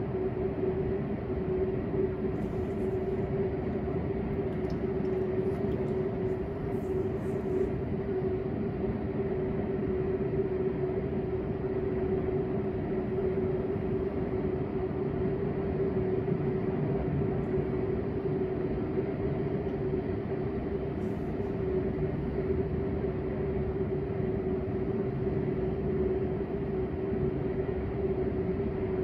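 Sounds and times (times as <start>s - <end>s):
mechanical hum with tone: 0.0s - 29.0s.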